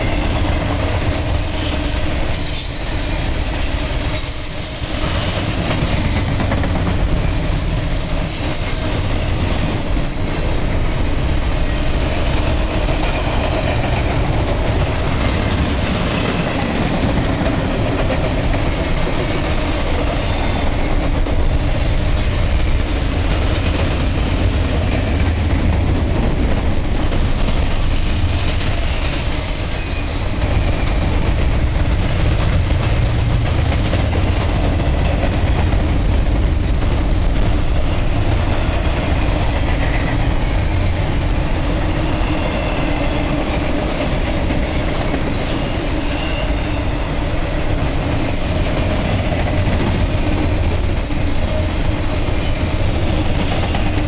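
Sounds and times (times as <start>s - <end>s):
diesel locomotive engine: 0.0s - 54.0s
freight train wheels on rail: 0.0s - 54.0s.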